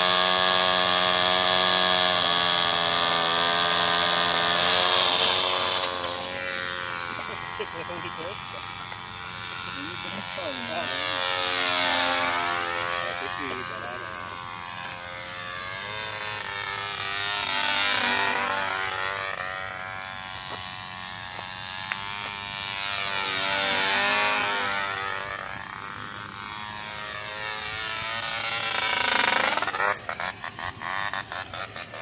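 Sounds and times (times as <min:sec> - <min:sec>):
model airplane flying past: 0:00.0 - 0:32.0.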